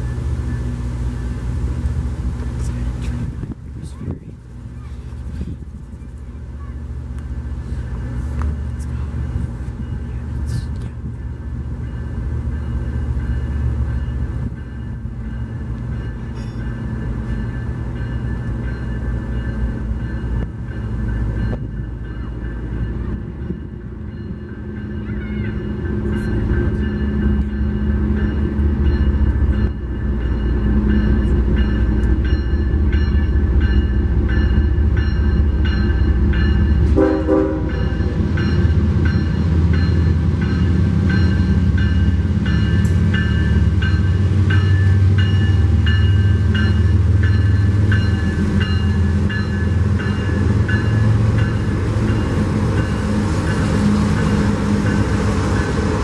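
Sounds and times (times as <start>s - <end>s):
train running past: 0.0s - 56.0s.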